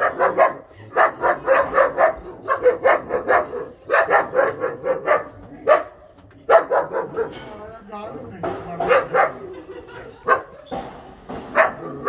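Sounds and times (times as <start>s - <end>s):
puppies barking: 0.0s - 7.6s, 8.7s - 12.0s.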